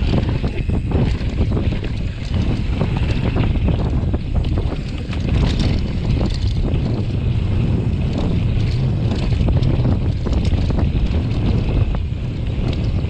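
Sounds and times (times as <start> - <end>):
bike clacking and rattling: 0.0 - 13.0
wind buffeting microphone: 0.0 - 13.0.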